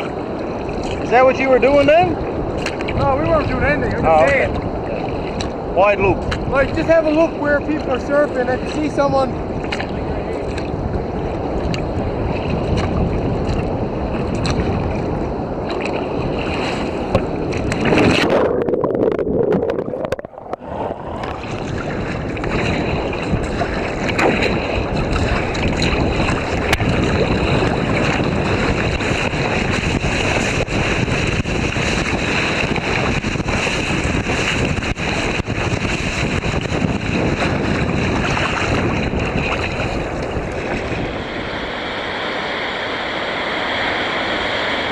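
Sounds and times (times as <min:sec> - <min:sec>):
water splashing around kayak: 0:00.0 - 0:44.9
waves breaking: 0:00.0 - 0:44.9
wind buffeting microphone: 0:00.0 - 0:44.9.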